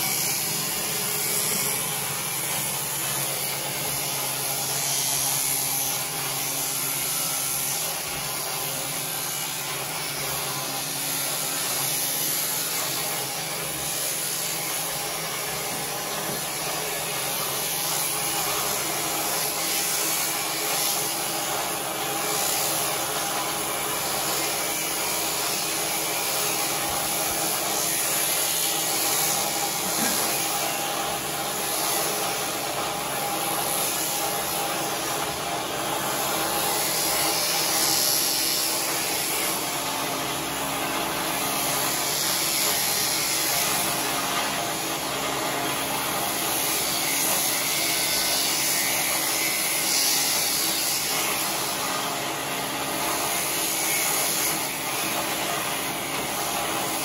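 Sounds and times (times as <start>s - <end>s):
electric sheep shears whirring: 0.0s - 57.0s.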